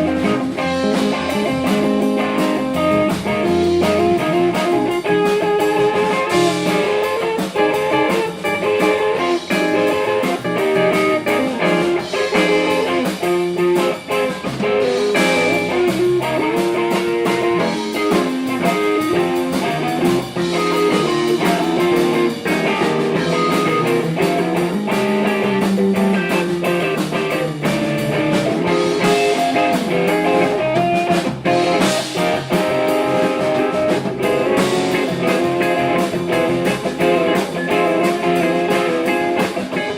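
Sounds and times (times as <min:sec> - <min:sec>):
blues guitar music: 0:00.0 - 0:39.9.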